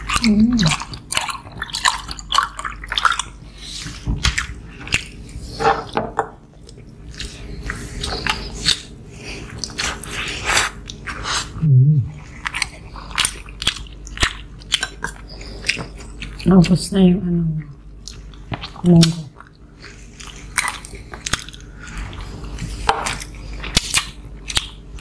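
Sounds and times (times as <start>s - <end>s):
people chewing noodles: 0.0s - 25.0s.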